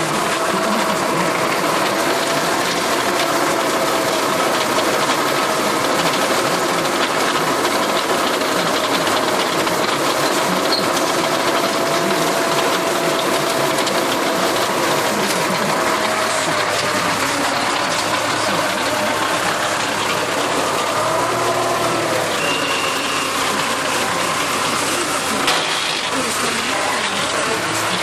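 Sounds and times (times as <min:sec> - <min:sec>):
tractor rotary tiller clattering: 0:00.0 - 0:28.0.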